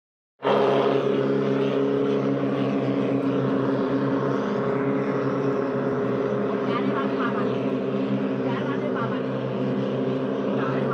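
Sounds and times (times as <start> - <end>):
boat engine running steadily: 0.4 - 10.9.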